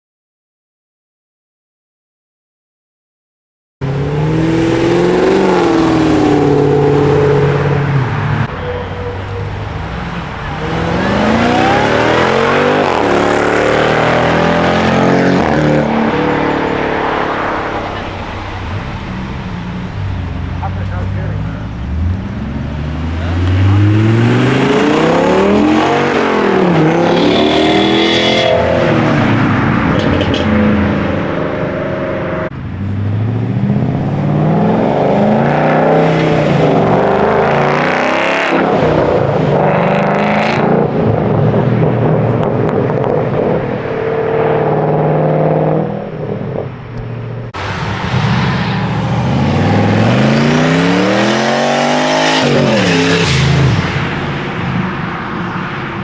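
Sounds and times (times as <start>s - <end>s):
car engines revving: 3.8s - 56.0s.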